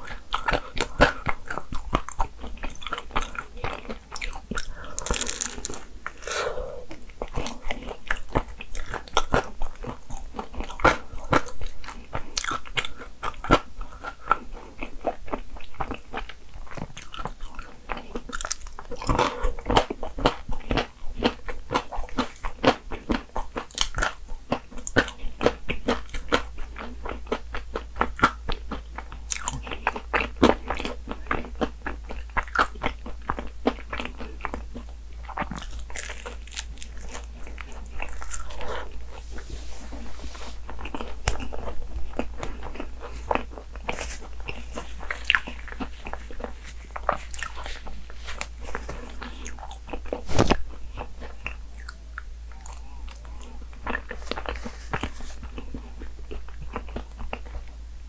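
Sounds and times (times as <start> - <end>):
chewing with small crunches: 0.0 - 58.0.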